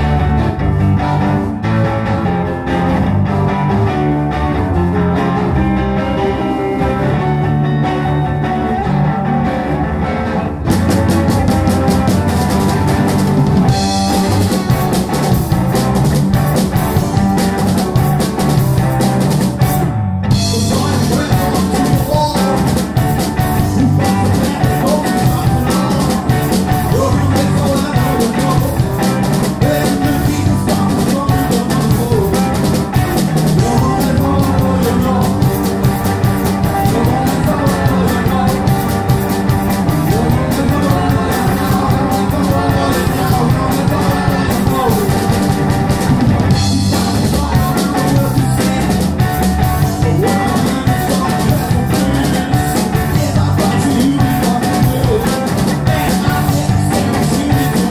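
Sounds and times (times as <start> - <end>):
electric guitar: 0.0 - 57.9
drum kit with cymbals: 10.7 - 57.9.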